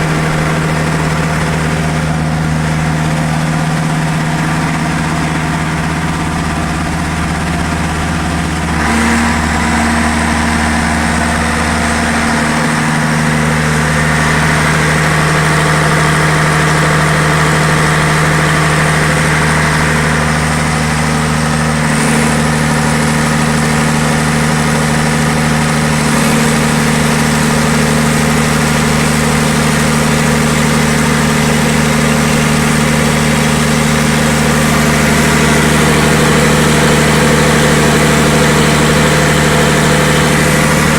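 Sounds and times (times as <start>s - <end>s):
diesel generator running: 0.0s - 40.9s.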